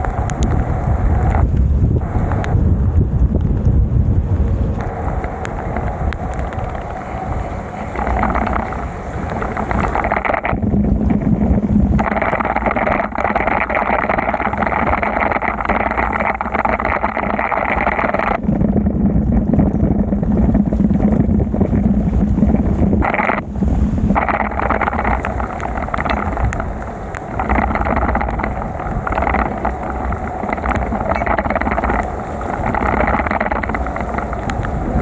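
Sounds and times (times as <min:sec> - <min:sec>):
bicycle tyres on wet road: 0:00.0 - 0:35.0
rain hissing: 0:00.0 - 0:35.0
wind rumbling on microphone: 0:00.0 - 0:35.0.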